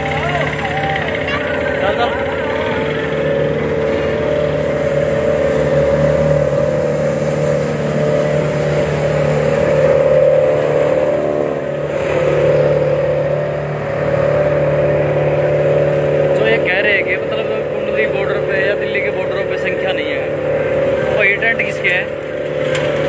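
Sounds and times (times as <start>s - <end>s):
vehicle engine droning: 0.0s - 23.0s.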